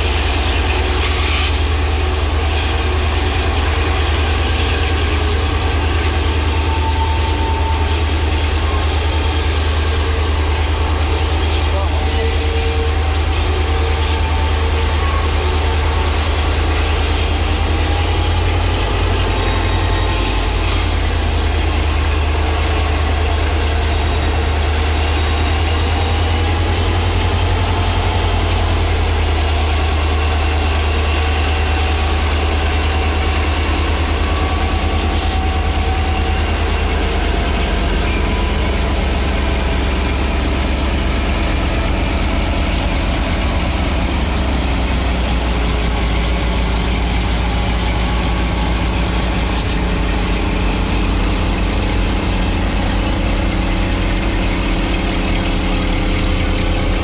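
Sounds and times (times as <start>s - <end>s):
diesel locomotive engine drone: 0.0s - 57.0s
wheel squeal: 0.0s - 57.0s.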